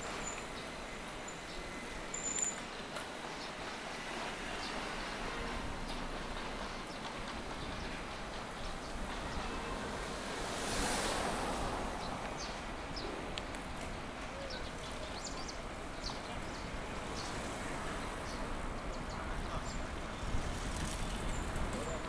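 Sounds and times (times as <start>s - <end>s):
road and air noise: 0.0s - 22.0s.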